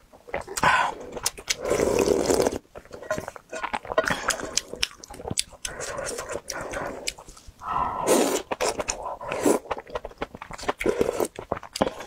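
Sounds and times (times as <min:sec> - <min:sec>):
wet chewing: 0:00.3 - 0:12.0
slurping noodles: 0:00.4 - 0:05.1, 0:05.7 - 0:12.0.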